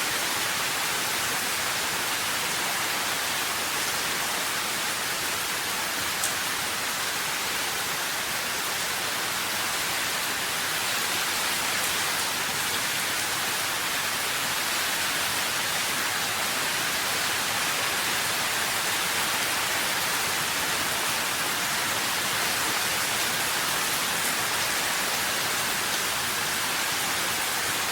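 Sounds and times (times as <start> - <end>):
steady rain hiss: 0.0 - 27.9.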